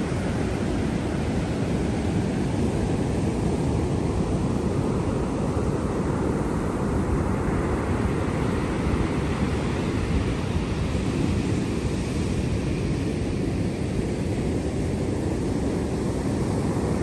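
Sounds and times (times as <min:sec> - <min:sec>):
sea surf waves rushing: 0:00.0 - 0:17.0.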